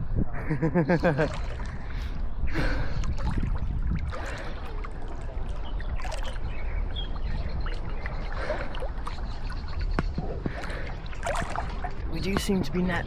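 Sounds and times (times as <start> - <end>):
water splashing and lapping: 0.8 - 13.0
small splashes: 1.0 - 12.6.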